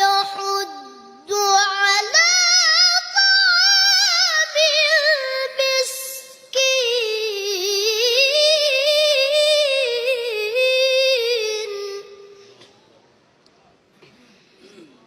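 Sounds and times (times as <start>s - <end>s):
person reciting melodically: 0.0s - 12.6s.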